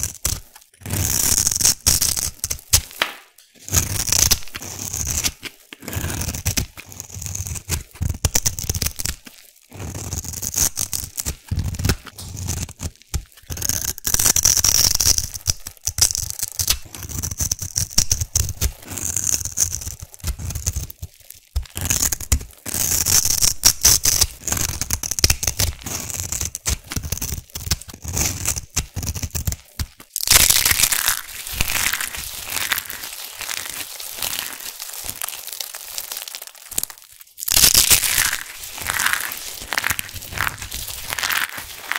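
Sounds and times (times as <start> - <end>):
knife scraping soap: 0.0 - 2.9, 3.6 - 35.2, 37.6 - 41.9
soap shavings crackling: 0.0 - 41.9.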